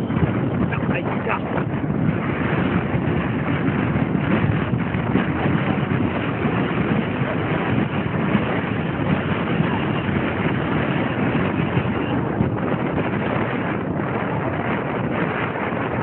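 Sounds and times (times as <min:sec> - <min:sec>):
moving vehicle road noise: 0:00.0 - 0:16.0
wind buffeting microphone: 0:00.0 - 0:16.0.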